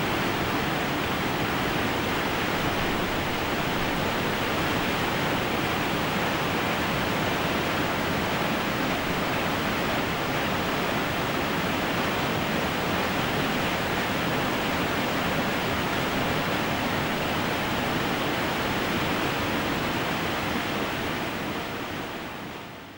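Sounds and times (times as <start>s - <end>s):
distant waterfall roar: 0.0s - 22.9s.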